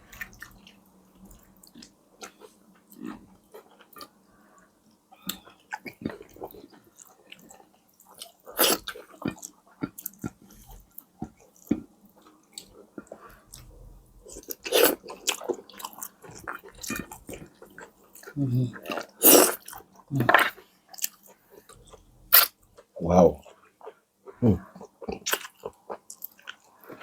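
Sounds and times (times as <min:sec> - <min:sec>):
chewing and biting food: 0:00.0 - 0:27.0.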